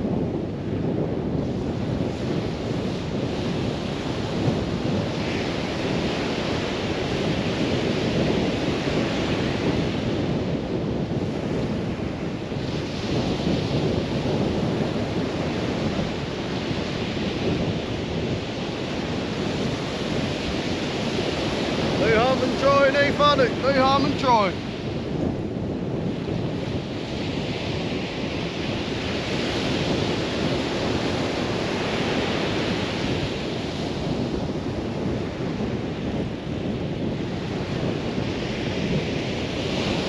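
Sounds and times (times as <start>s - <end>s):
surf on beach: 0.0s - 40.0s
waves washing in: 0.0s - 40.0s
wind buffeting microphone: 0.0s - 40.0s.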